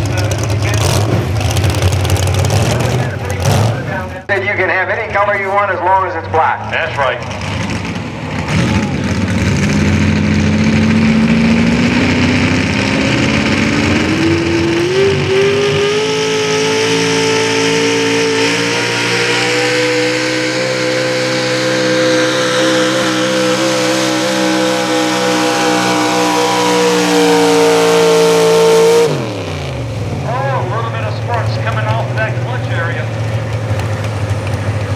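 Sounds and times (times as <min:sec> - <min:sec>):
truck engine at full throttle: 0:00.0 - 0:34.9.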